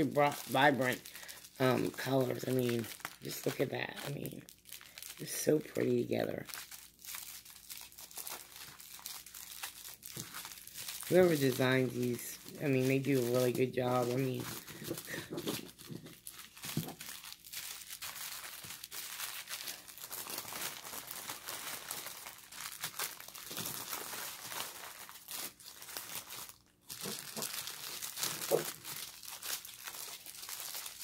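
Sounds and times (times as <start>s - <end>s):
plastic bags crinkling: 0.0s - 31.0s.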